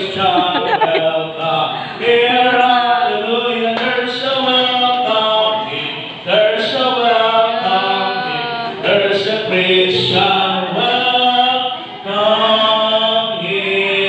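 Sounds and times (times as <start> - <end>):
congregation singing a hymn: 0.0 - 14.0.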